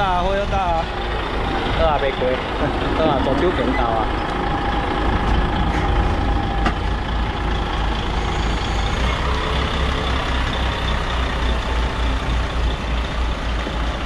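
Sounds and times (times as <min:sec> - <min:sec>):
diesel truck engine at low revs: 0:00.0 - 0:14.0.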